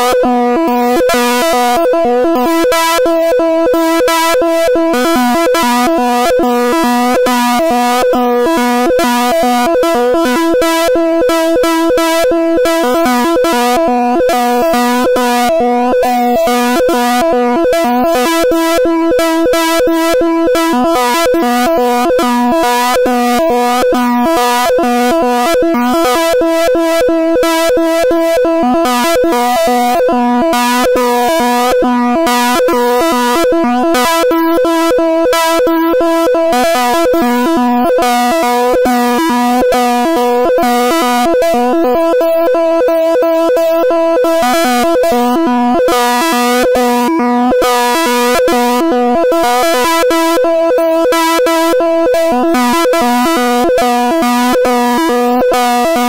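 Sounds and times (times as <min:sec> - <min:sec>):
steady synthesizer-like tone: 0:00.0 - 0:56.0.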